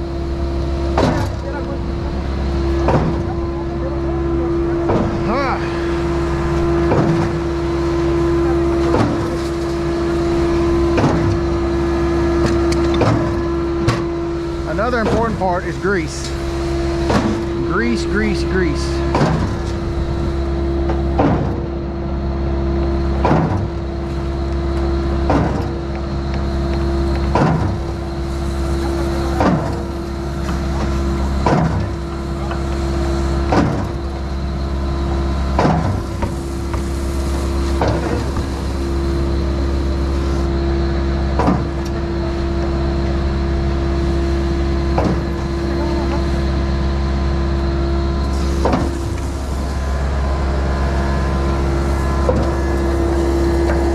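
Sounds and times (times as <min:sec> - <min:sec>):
pump engine hum: 0:00.0 - 0:53.9.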